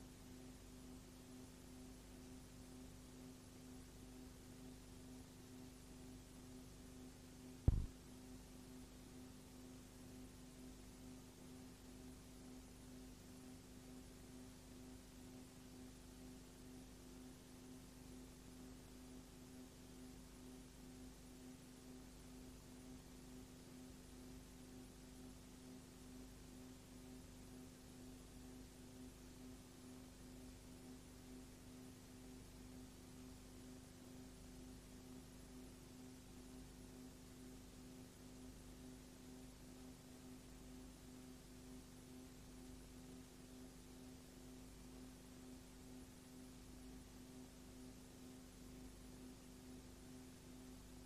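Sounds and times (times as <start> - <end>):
faint hum with hiss: 0.0 - 51.0.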